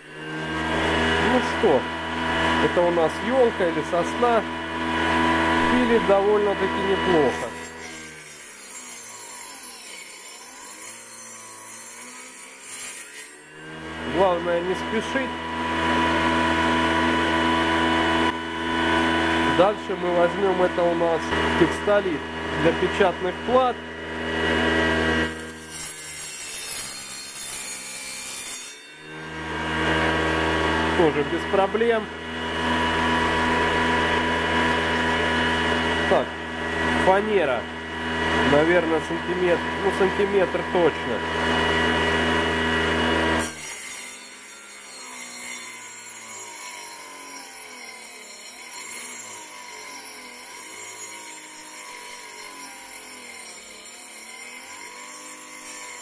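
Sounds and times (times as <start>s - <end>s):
saw blade rasping through board: 0.0s - 56.0s
small motor whine: 0.0s - 56.0s.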